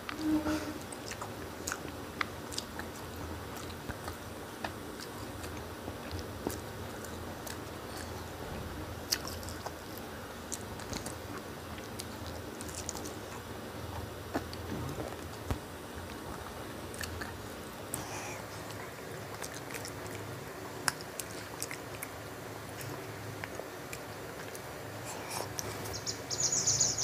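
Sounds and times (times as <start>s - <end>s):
small eating clicks: 0.8s - 26.2s
person chewing food: 0.9s - 8.4s, 9.0s - 25.9s.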